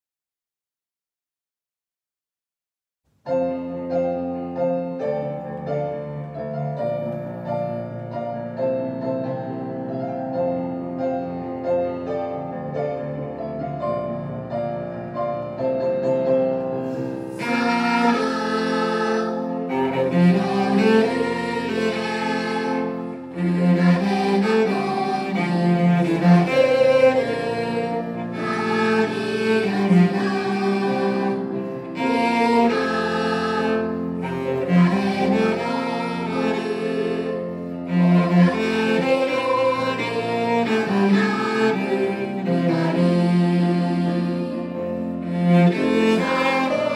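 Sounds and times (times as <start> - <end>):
piano chords: 3.2 - 46.9
cello bowing a melody: 3.3 - 46.9.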